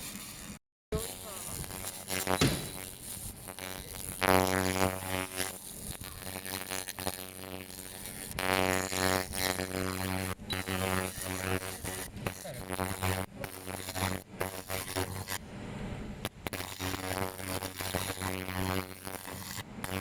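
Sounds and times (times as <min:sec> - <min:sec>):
laser cleaning machine buzzing: 0:00.2 - 0:15.4, 0:16.5 - 0:20.0.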